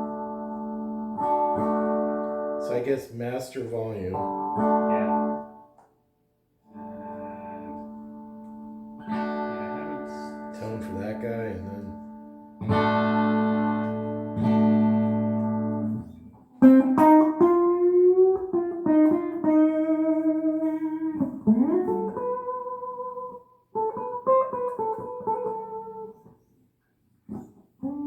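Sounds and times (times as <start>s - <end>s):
clean electric guitar: 0.0s - 5.9s, 6.6s - 26.5s, 27.2s - 28.0s.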